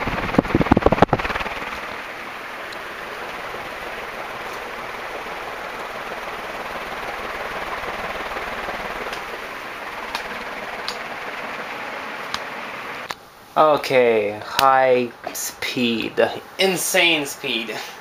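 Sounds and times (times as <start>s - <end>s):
ceiling fan blades whooshing: 0.0s - 18.0s.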